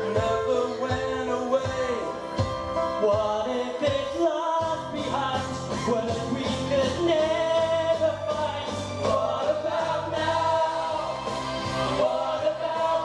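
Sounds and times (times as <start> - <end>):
men singing pop song: 0.0 - 2.2, 3.0 - 13.0
loud backing track: 0.0 - 13.0.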